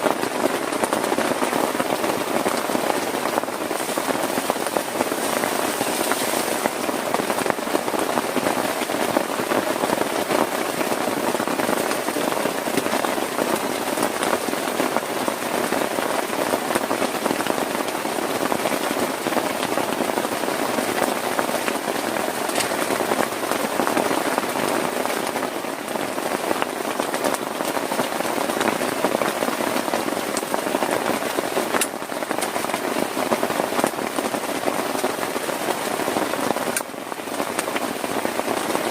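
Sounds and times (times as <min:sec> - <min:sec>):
heavy rain on a plastic tarp: 0:00.0 - 0:38.9.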